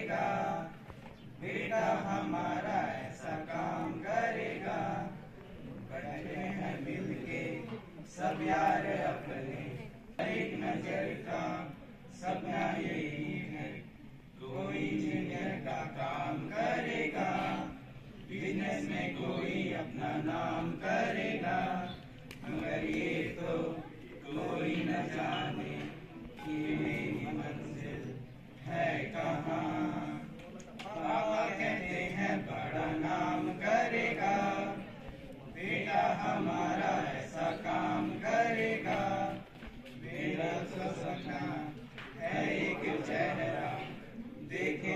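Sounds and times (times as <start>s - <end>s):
boys singing in unison: 0.0s - 44.9s.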